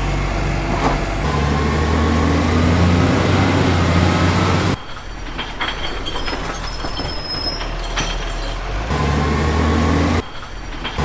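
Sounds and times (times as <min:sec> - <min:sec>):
heavy engine drone: 0:00.0 - 0:05.4, 0:06.9 - 0:11.0.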